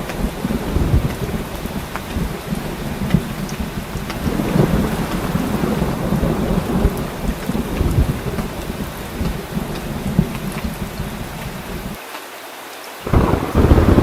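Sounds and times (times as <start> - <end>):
thunder rumbling: 0.0 - 12.0, 13.1 - 14.0
heavy rain: 0.0 - 14.0.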